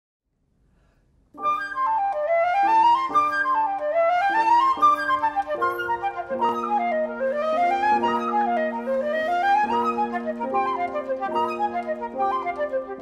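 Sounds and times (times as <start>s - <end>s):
piano: 1.3s - 13.0s
flute: 1.4s - 13.0s.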